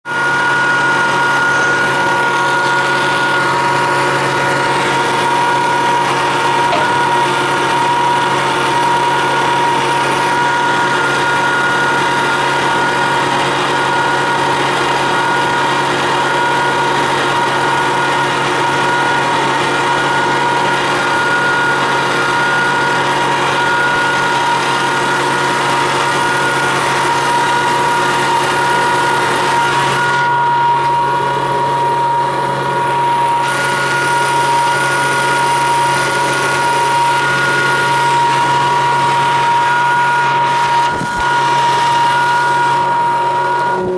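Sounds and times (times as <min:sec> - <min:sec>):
machinery two-tone whine: 0:00.1 - 0:43.9.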